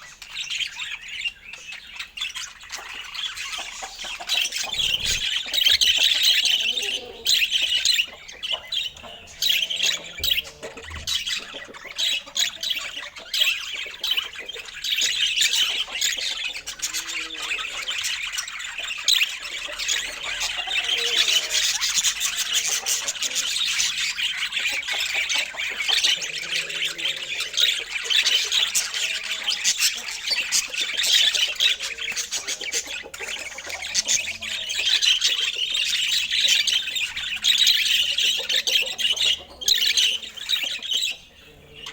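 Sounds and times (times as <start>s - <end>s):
budgerigars chattering and warbling: 0.0s - 41.9s.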